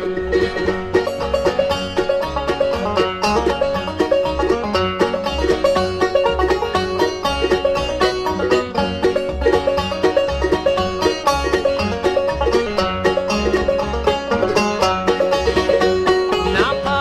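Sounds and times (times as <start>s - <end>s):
banjo picking fast notes: 0.0s - 17.0s
bass beat: 0.0s - 17.0s
rhythm guitar: 0.0s - 17.0s.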